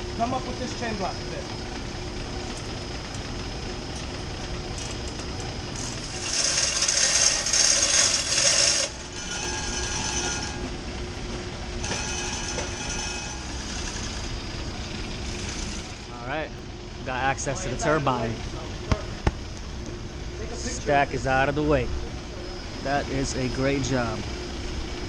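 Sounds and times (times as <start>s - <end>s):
machinery hum: 0.0s - 25.0s.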